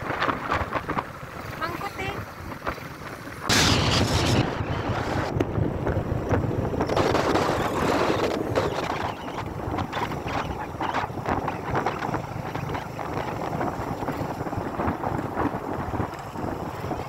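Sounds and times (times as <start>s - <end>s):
motorcycle road and motor noise: 0.0s - 17.0s
wind buffeting microphone: 0.0s - 17.0s.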